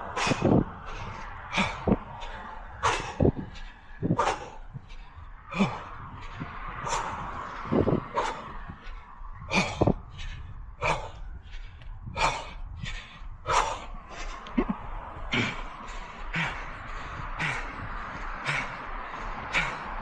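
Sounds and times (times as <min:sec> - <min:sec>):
runner breathing heavily: 0:00.0 - 0:20.0.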